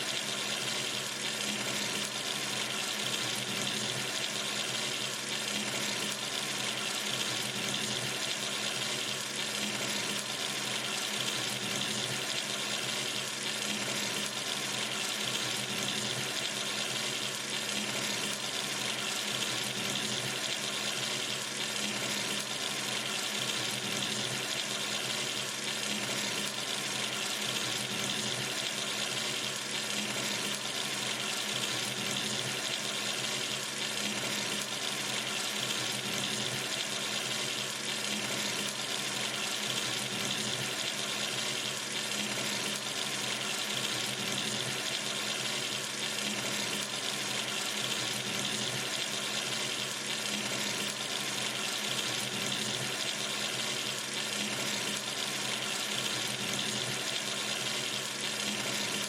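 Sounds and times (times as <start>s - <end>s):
sink tap running: 0.0s - 59.0s.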